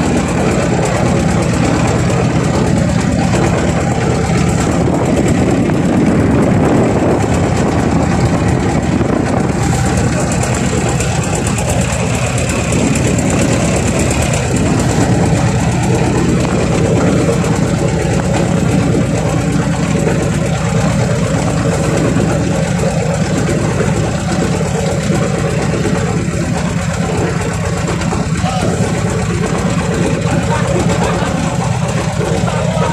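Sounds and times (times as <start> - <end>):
boat engine running: 0.0 - 32.9.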